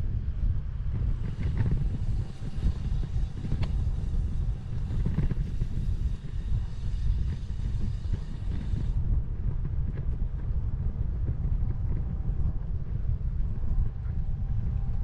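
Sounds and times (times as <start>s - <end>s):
wind buffeting microphone: 0.0s - 15.0s
faint clicks from bike: 0.2s - 15.0s.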